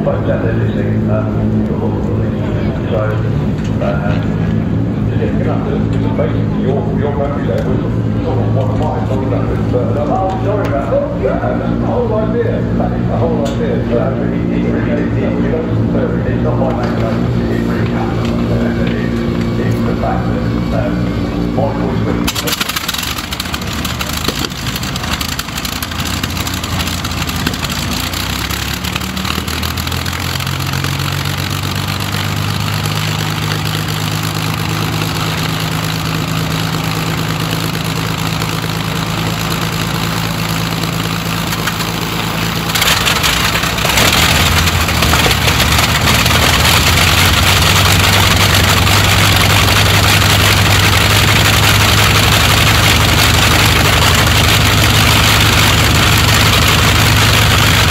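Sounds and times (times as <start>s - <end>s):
aero engine idling: 0.0s - 57.9s
radial engine running: 0.0s - 57.9s.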